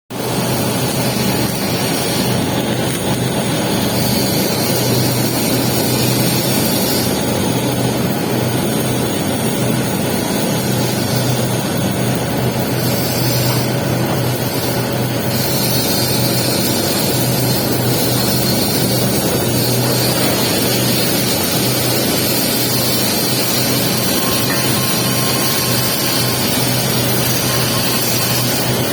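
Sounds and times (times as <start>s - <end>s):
welding arc hissing and crackling: 0.2s - 28.9s.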